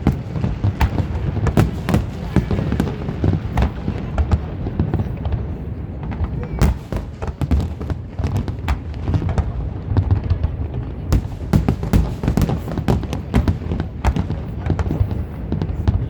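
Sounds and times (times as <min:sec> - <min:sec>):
firework cracks and bangs: 0:00.0 - 0:16.0.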